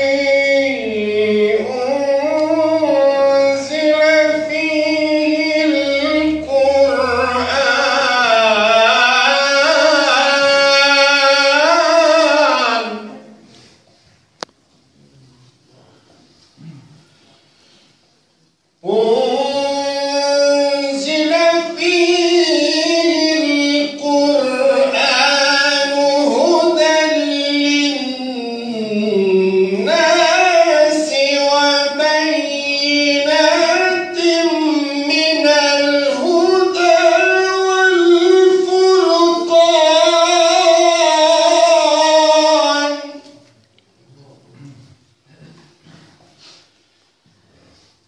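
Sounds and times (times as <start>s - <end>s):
man reciting melodically: 0.0s - 13.8s, 18.5s - 46.5s.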